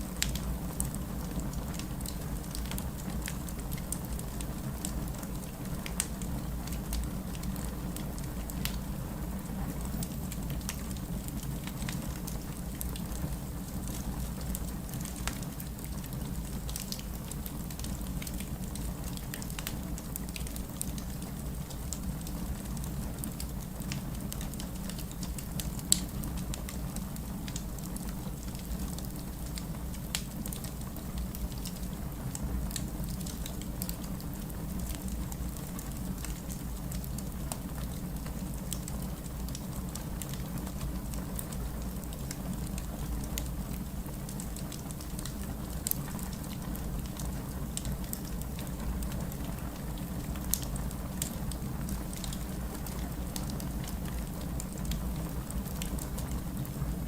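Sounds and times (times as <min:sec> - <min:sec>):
steady rain: 0:00.0 - 0:57.0
fireplace crackling and popping: 0:00.1 - 0:57.0.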